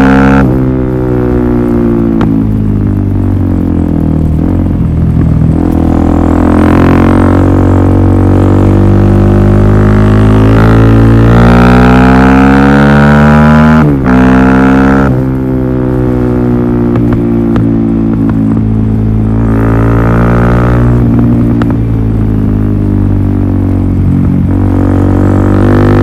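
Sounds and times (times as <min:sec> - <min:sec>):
motorcycle engine running loud: 0:00.0 - 0:26.0.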